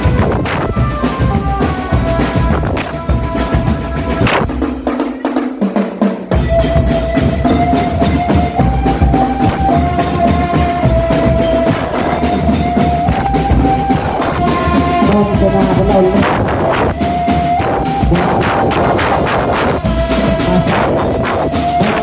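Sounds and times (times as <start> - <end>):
marching drum band playing: 0.0 - 22.0.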